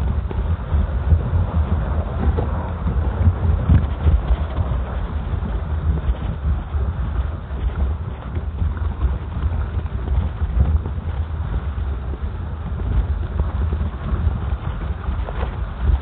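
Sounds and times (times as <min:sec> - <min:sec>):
microphone handling noise: 0:00.0 - 0:16.0
wind rumble: 0:00.0 - 0:16.0.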